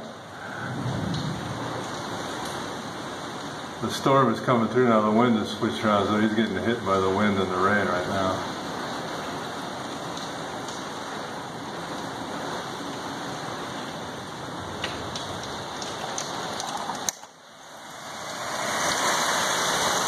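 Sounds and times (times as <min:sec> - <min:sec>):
heavy wind-driven rain: 0:00.0 - 0:20.0.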